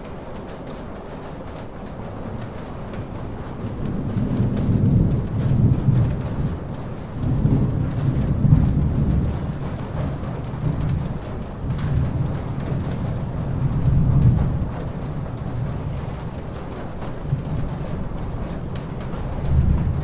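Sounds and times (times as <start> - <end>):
rain patter: 0.0 - 20.0
rolling thunder: 2.2 - 20.0.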